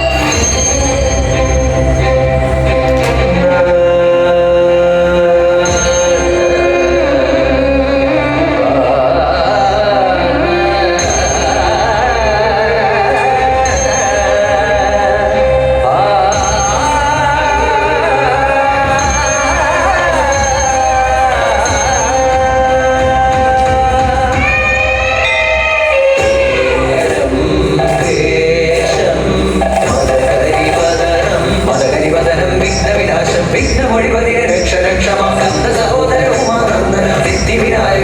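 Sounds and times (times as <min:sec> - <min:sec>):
person singing a song: 0:00.0 - 0:38.0.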